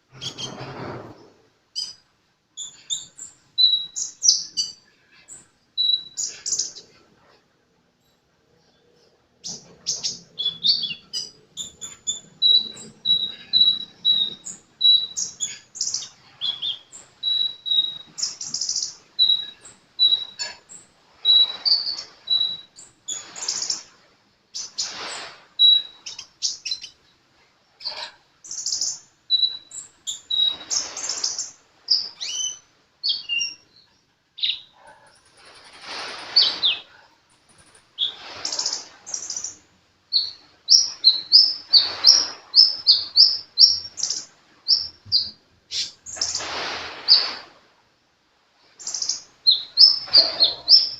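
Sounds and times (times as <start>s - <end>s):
sunbird chirping and twittering: 0.0s - 7.1s, 8.0s - 23.9s, 24.5s - 27.2s, 27.8s - 47.4s, 48.8s - 50.9s.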